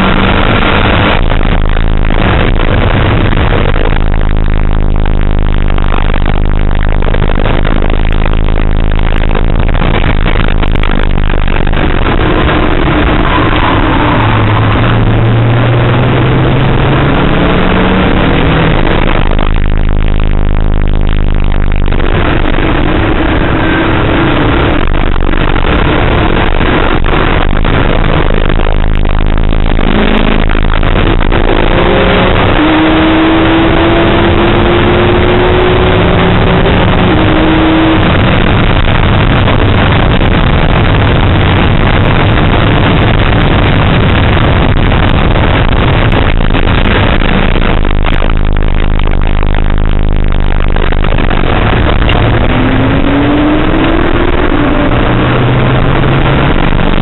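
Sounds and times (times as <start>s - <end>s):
car engine revving hard: 0.0s - 49.7s, 50.5s - 57.0s
road and wind noise: 0.0s - 57.0s.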